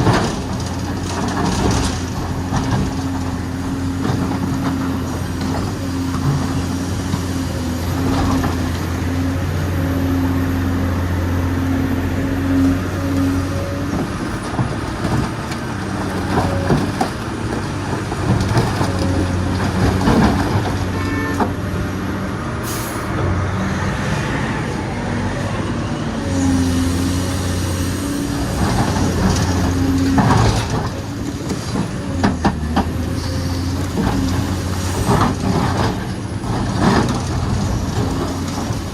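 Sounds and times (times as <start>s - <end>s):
diesel excavator engine running: 0.0s - 38.9s.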